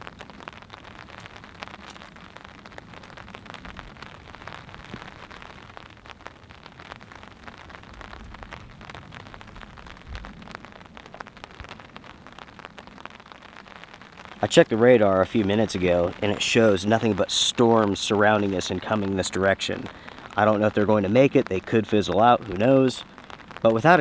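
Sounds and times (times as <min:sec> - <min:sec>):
raindrops ticking on a surface: 0:00.0 - 0:24.0
steady rain: 0:00.0 - 0:24.0.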